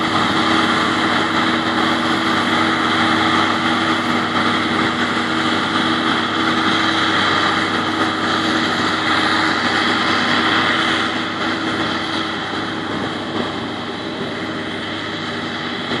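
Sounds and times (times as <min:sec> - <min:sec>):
harvester engine and chopper drone: 0:00.0 - 0:16.0.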